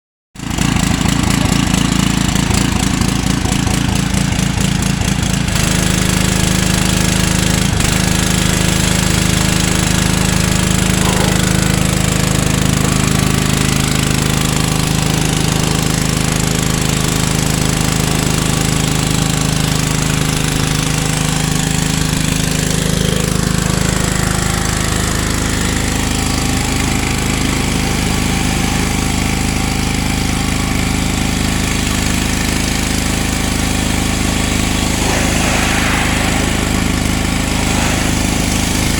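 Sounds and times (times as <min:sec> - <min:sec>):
pressure washer running: 0:00.4 - 0:38.9.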